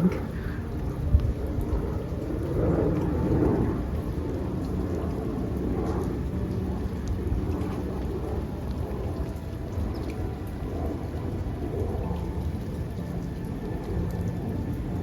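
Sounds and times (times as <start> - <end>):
constant low rumble: 0.0 - 15.0
steady rain falling: 0.0 - 15.0.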